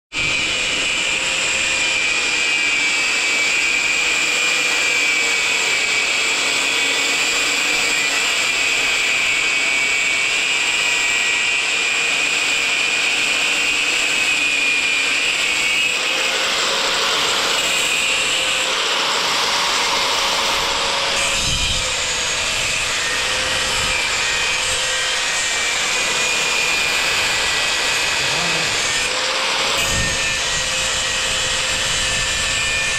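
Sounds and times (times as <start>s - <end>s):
angle grinder cutting metal: 0.1s - 32.9s.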